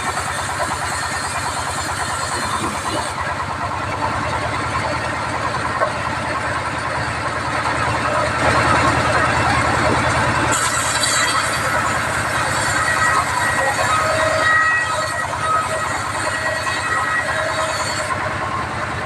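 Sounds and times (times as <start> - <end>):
band sawmill running: 0.0 - 19.0.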